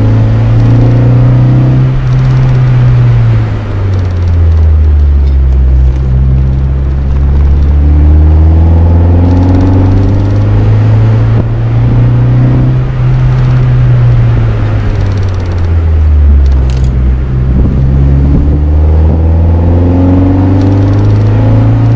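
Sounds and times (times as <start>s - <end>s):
car exhaust drone: 0.0s - 21.9s.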